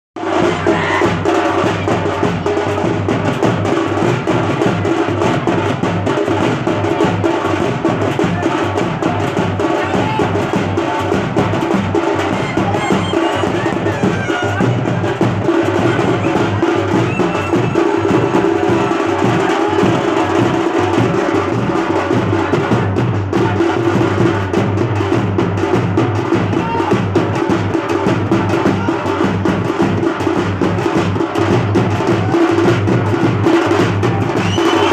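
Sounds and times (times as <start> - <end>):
street band drumming: 0.2 - 34.9.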